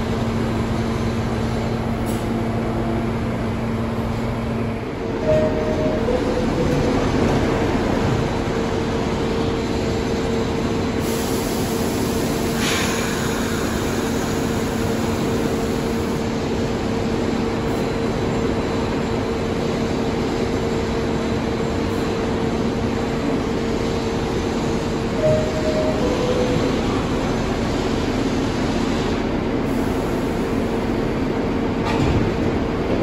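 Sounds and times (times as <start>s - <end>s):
subway train humming: 0.0s - 33.0s.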